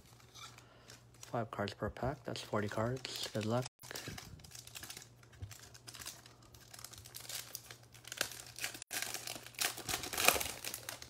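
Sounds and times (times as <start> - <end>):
cards rustling: 0.0 - 11.0
foil wrapper crinkling and tearing: 0.0 - 11.0.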